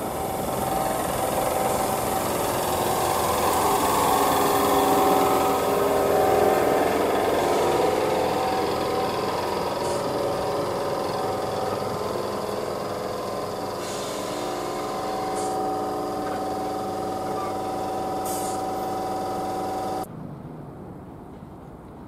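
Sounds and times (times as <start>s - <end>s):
electric train motors whining: 0.0s - 20.1s.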